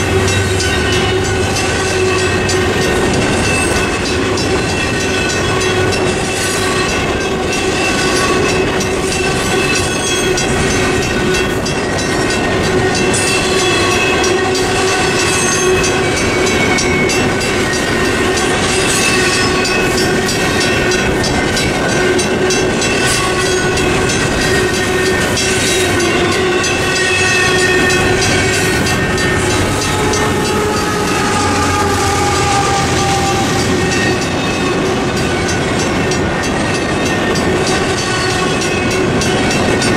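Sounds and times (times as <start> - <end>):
crossing signal bell ringing: 0.0 - 39.9
train wheels rumbling on rails: 0.0 - 39.9.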